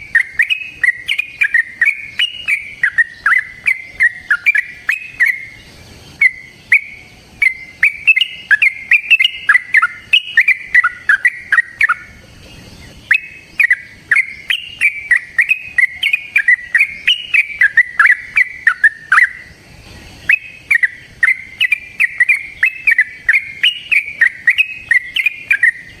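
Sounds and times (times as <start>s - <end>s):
bulbul singing whistled runs: 0.0s - 26.0s.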